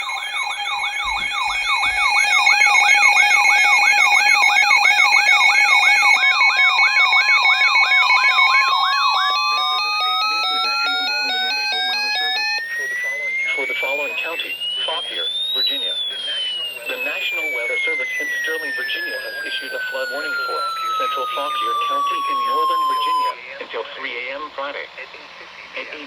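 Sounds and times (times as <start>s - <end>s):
electronic siren yelping: 0.0s - 23.3s
rising siren tone: 0.0s - 23.3s
alternating alarm tone: 0.0s - 23.4s.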